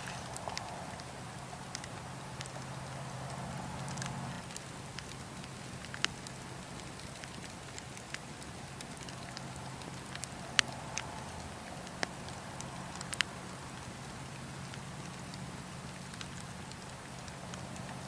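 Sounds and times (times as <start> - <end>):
campfire crackling: 0.0 - 18.0
fire popping: 0.0 - 18.0.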